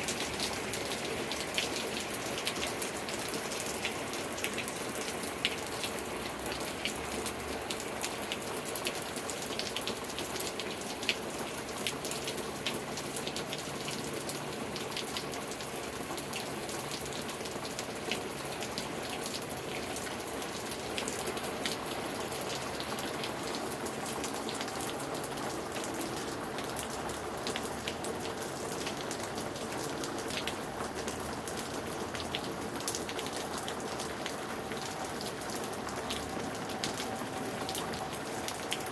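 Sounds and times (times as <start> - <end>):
heavy rain on hard surface: 0.0 - 38.9.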